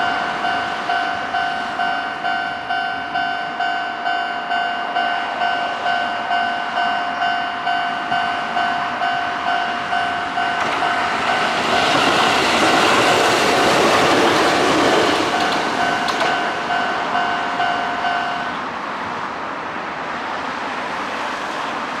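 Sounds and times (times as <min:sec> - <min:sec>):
railroad crossing bell ringing: 0:00.0 - 0:19.0
train rushing past: 0:00.0 - 0:22.0.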